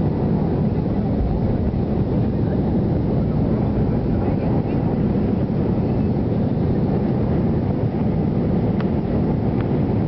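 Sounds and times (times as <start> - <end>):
jet engines heard from cabin: 0.0 - 10.0.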